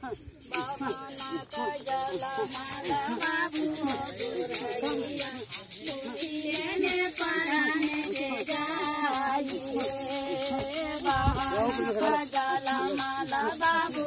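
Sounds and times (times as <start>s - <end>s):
rattle beat: 0.0s - 14.0s
women singing: 0.0s - 14.0s.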